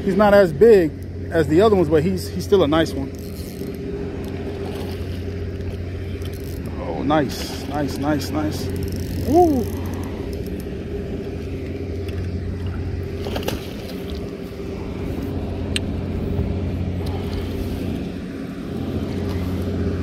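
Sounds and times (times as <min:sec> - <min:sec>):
pump droning: 0:00.0 - 0:20.0.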